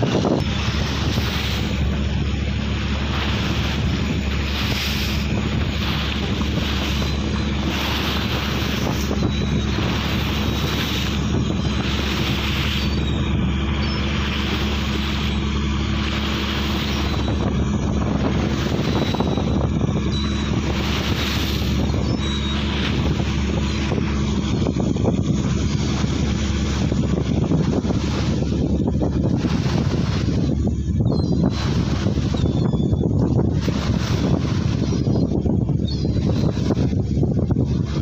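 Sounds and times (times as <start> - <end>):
boat engine droning: 0.0 - 38.0
sea waves washing: 0.0 - 38.0
wind buffeting microphone: 0.0 - 38.0.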